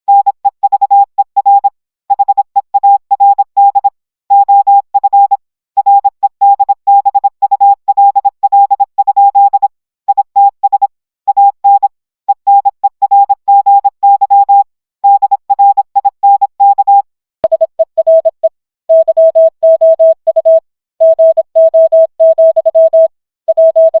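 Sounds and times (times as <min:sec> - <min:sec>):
morse code beeps: 0:00.1 - 0:24.0.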